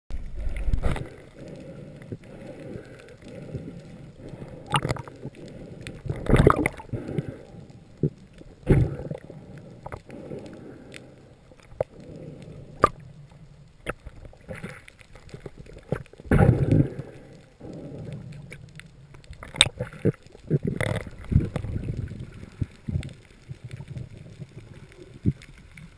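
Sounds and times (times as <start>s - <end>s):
low underwater wash: 0.1s - 25.9s
underwater swooshes and gurgles: 0.1s - 25.9s.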